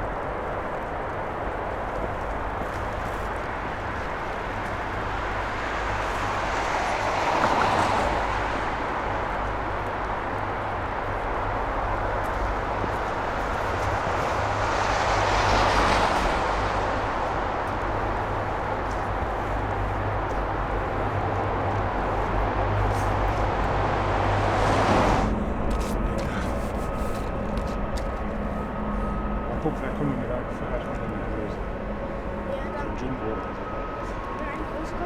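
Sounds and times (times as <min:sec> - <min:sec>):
vehicle engine rumble: 0:00.0 - 0:35.0.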